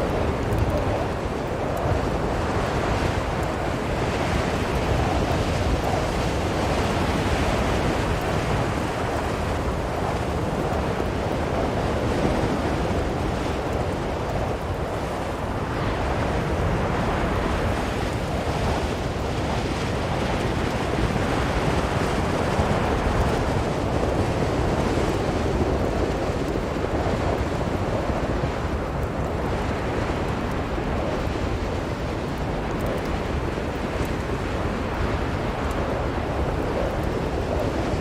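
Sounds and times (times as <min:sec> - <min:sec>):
strong blizzard wind: 0:00.0 - 0:38.0.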